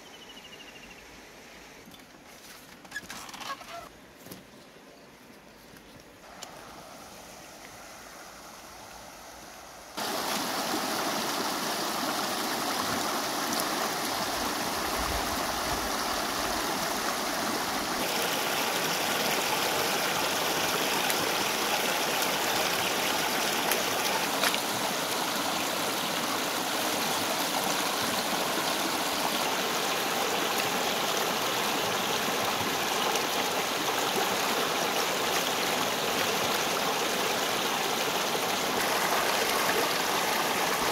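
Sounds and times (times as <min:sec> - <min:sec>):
river water rushing: 0:06.2 - 0:40.9.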